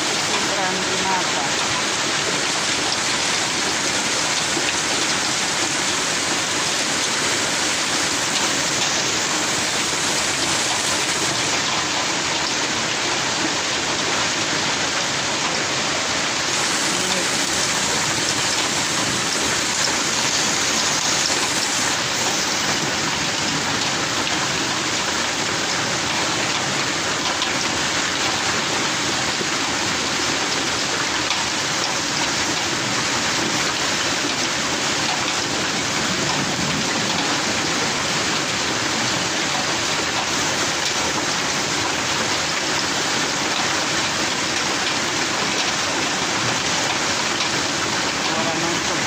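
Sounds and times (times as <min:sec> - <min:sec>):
hail on a corrugated roof: 0:00.0 - 0:49.0.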